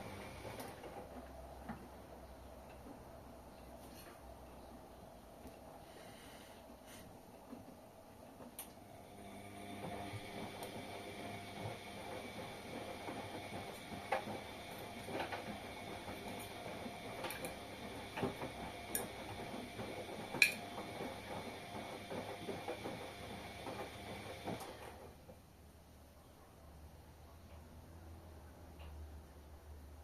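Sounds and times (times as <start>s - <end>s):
washing machine hum and clatter: 0.0s - 26.6s.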